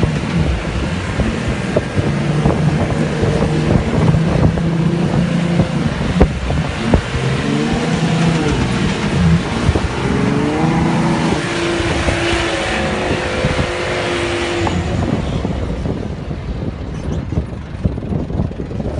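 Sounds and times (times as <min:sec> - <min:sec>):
car engine revving: 0:00.0 - 0:16.7
loud rushing noise: 0:00.0 - 0:18.9.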